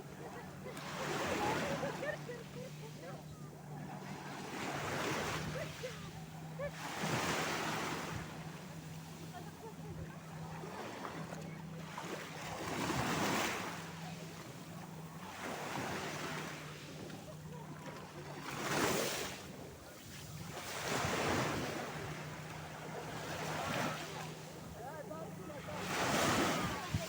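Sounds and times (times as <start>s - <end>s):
sea waves surging and washing: 0.0s - 27.0s.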